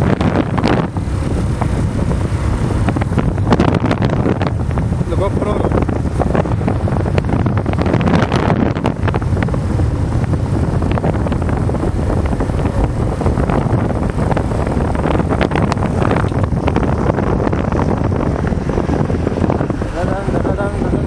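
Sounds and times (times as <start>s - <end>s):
motorcycle engine: 0.0s - 21.0s
wind buffeting microphone: 0.0s - 21.0s.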